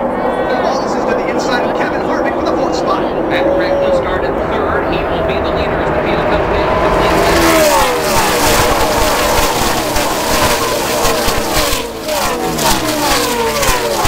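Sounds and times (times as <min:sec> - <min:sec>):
race trucks passing at speed: 0:00.0 - 0:14.0.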